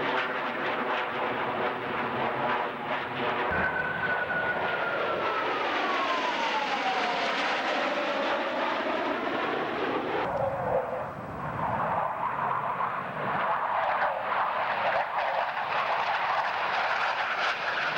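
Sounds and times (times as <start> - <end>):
jet airplane flying past: 0.0 - 17.9.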